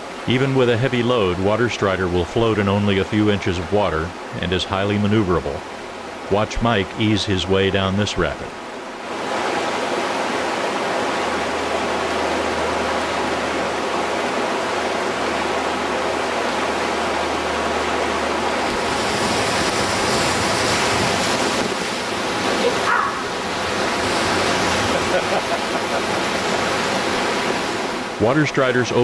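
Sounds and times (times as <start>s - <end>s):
river rapids rushing: 0.0s - 29.0s.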